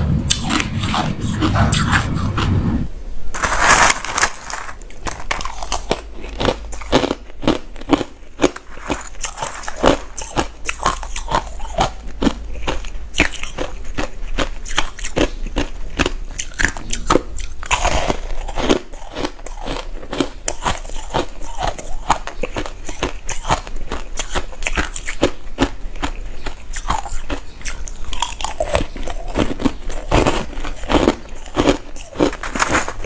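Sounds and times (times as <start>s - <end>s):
ice being chewed and crunched: 3.7s - 33.0s.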